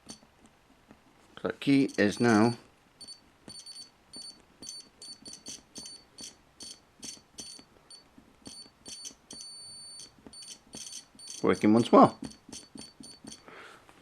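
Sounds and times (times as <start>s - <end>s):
multimeter buzzer beeps: 1.8s - 13.5s.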